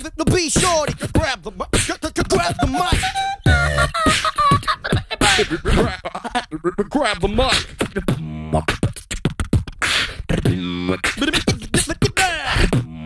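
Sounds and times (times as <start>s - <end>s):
person beatboxing: 0.0s - 13.0s.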